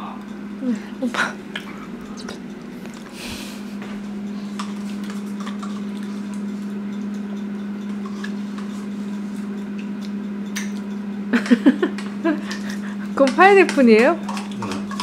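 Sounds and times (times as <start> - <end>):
low hum: 0.0 - 13.4.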